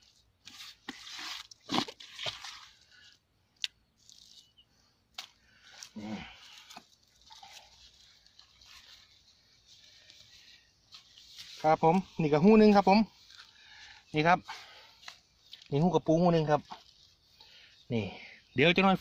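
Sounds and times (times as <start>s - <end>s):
hand scraping dry soil: 0.0s - 3.2s, 3.9s - 18.3s.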